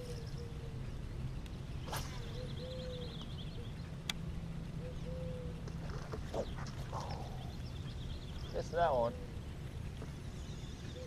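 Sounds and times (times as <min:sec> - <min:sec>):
birds calling softly: 0:00.0 - 0:11.0
low hum: 0:00.0 - 0:11.0.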